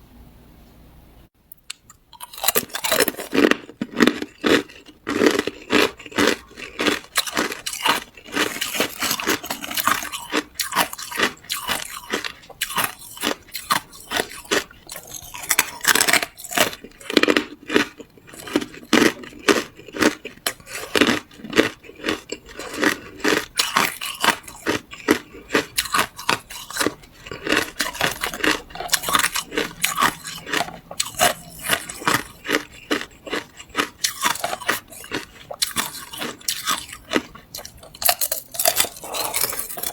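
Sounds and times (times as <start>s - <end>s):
ice crunching being chewed: 1.7s - 39.9s.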